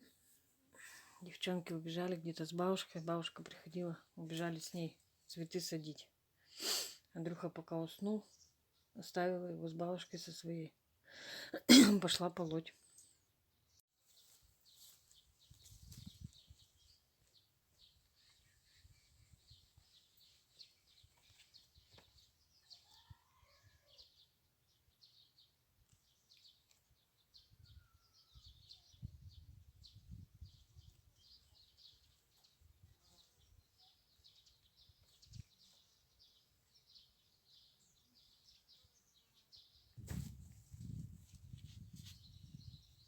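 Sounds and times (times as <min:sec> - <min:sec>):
small birds chirping: 0:00.0 - 0:10.6, 0:12.1 - 0:43.0.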